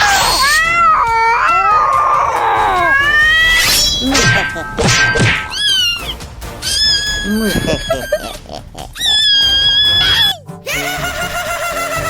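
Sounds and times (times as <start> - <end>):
cat meowing: 0.0 - 8.4, 9.0 - 10.4.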